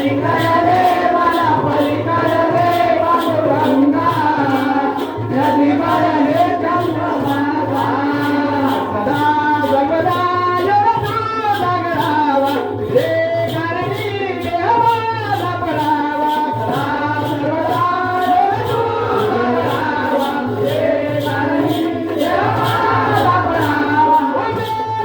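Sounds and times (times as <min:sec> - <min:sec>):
chorus singing: 0:00.0 - 0:25.0
percussion beat: 0:00.0 - 0:25.0
person singing: 0:00.0 - 0:25.0.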